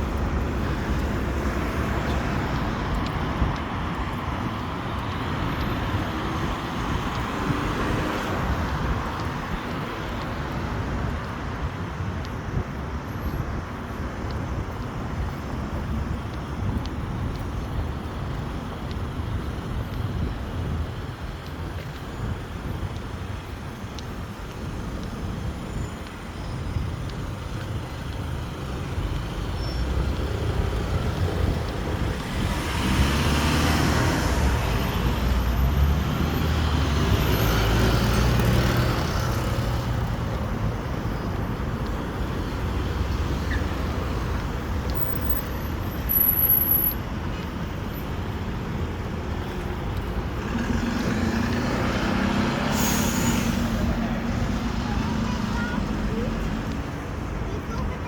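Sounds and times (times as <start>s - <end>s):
motor vehicles rumbling: 0.0s - 58.0s.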